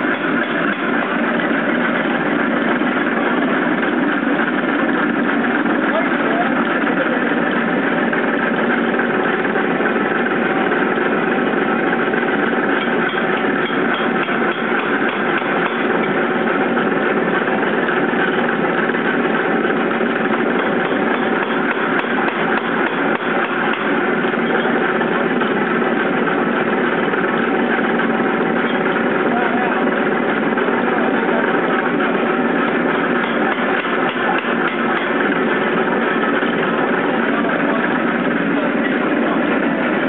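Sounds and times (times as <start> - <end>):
air hammer running: 0.0 - 40.0.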